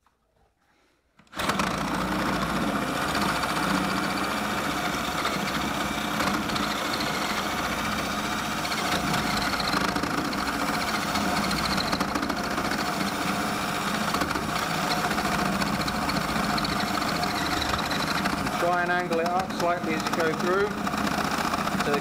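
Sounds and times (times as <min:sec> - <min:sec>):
drill boring through wood: 0:01.3 - 0:22.0.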